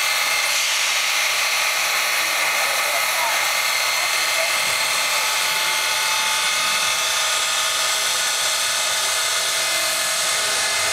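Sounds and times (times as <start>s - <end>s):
steam locomotive hissing steam: 0.0s - 10.9s.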